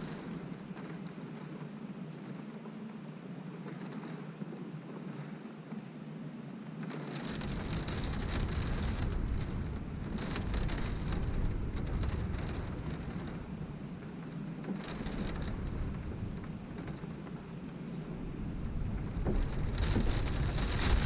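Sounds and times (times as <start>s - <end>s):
low rumble of wind: 0.0s - 21.0s
rain beating against a window: 0.0s - 21.0s.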